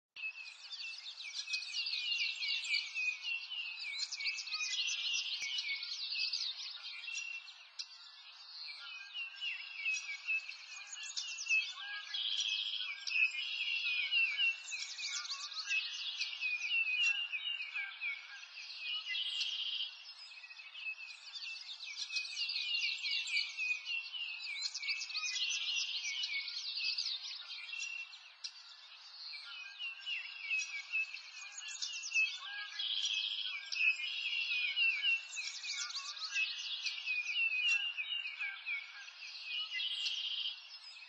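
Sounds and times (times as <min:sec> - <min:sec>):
songbirds chirping and twittering: 0:00.0 - 0:41.0.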